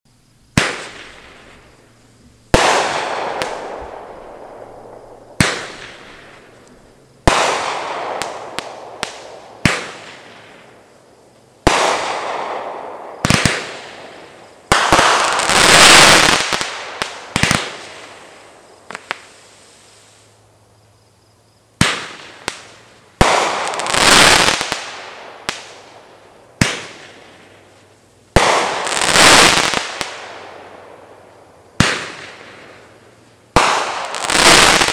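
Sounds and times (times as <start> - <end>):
fireworks bangs with echoing tail: 0.5 - 19.5, 21.8 - 34.9.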